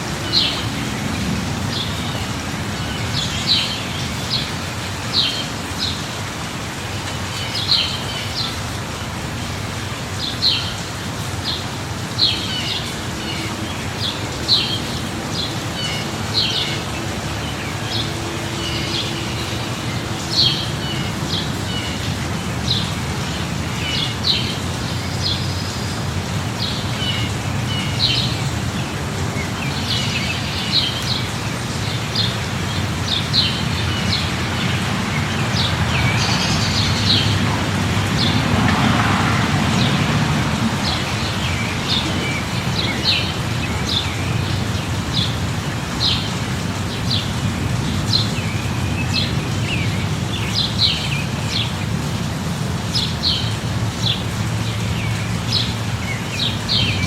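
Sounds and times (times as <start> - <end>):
birds chirping: 0.0 - 57.0
light rain hiss: 0.0 - 57.0.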